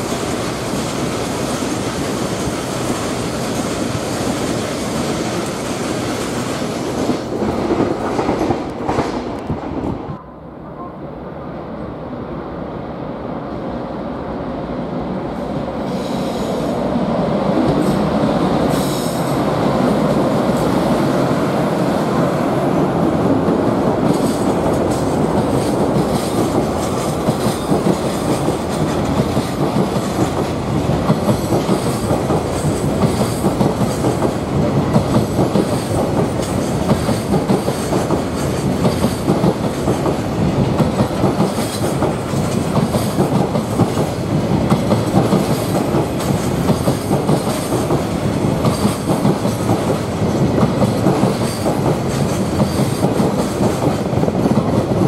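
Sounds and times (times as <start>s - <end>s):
electric locomotive passing: 0.0s - 55.0s.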